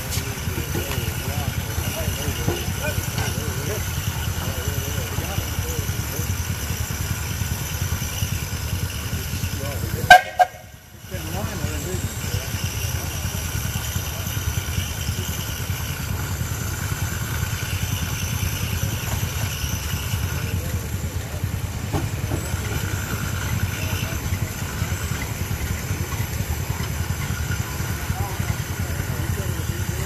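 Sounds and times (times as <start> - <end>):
steam tractor driving thresher: 0.0 - 30.0.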